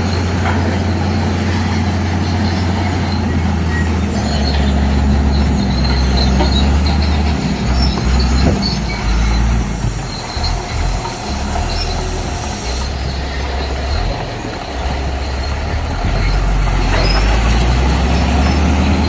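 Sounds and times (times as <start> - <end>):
bulldozer diesel engine droning: 0.0 - 19.0
steel tracks squealing and clanking: 0.0 - 19.0.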